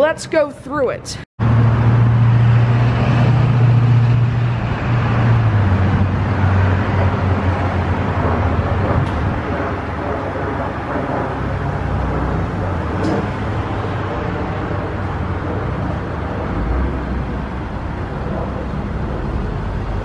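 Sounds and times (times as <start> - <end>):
steady mechanical hum: 1.4 - 20.0.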